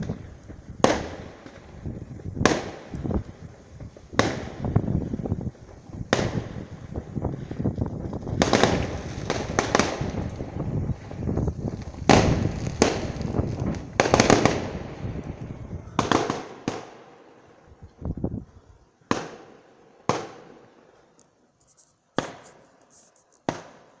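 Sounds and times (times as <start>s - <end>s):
fireworks bangs: 0.0s - 18.4s, 19.1s - 20.9s, 22.2s - 24.0s
fireworks crackling: 0.0s - 24.0s.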